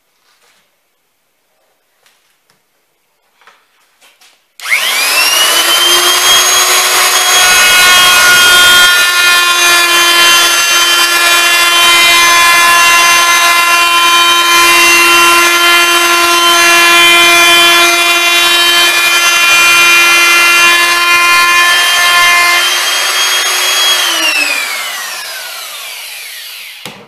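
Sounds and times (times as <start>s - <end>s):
router cutting wood: 4.6s - 27.0s
router motor whining: 4.6s - 27.0s.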